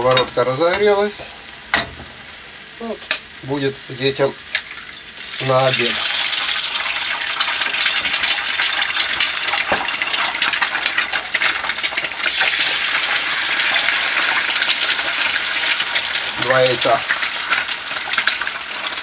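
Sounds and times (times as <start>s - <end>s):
eggs sizzling in a frying pan: 0.0s - 19.0s.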